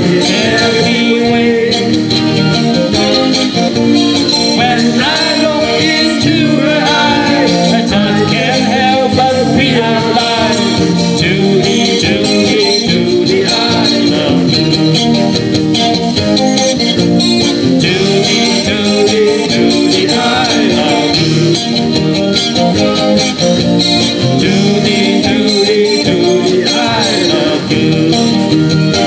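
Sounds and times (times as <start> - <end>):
drum kit keeping a beat: 0.0 - 29.0
guitar: 0.0 - 29.0
pitch-bending melody line: 0.0 - 29.0.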